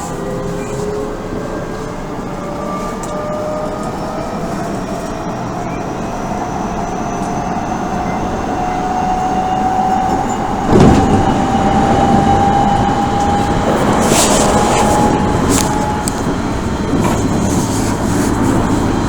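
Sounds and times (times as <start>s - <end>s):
train inverter whine: 0.0s - 19.0s
train running rumble: 0.0s - 19.0s.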